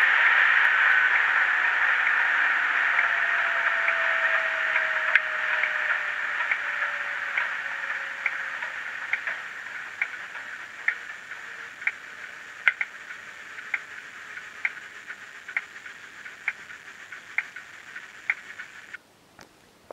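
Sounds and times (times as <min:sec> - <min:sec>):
hissy diesel engine from small speaker: 0:00.0 - 0:19.0.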